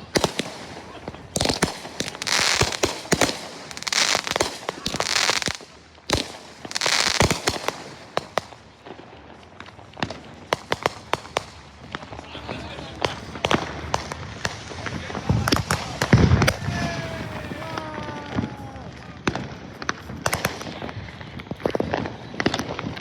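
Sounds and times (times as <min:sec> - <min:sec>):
fireworks crackling: 0:00.0 - 0:23.0
fireworks popping and banging: 0:00.0 - 0:23.0.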